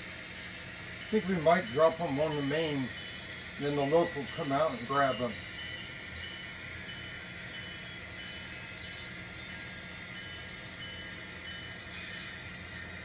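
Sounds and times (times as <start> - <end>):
model locomotive engine hum: 0.0 - 13.0.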